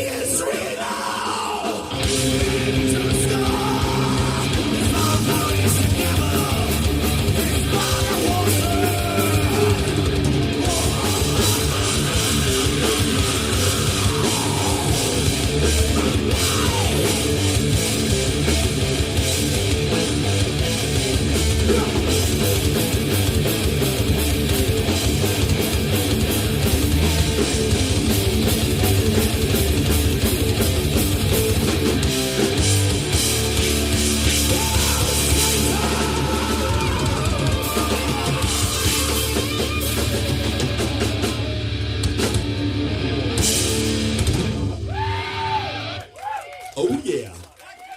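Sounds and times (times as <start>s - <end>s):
driving drum kit: 0.0s - 45.8s
distorted electric guitars: 0.0s - 46.1s
bass guitar: 1.3s - 46.1s.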